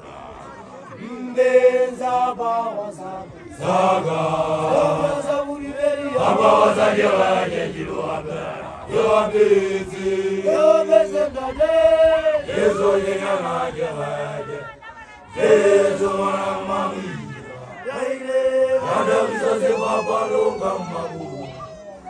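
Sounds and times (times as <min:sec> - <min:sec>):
young men chanting: 0:00.0 - 0:21.7.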